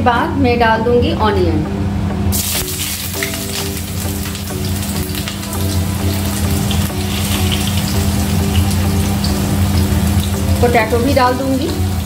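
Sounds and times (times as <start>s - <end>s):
onions sizzling in hot oil: 2.3s - 12.0s.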